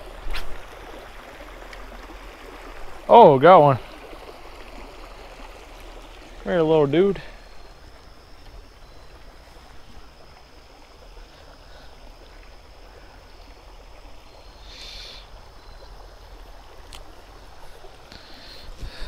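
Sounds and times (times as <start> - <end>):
flowing creek: 0.0 - 19.0.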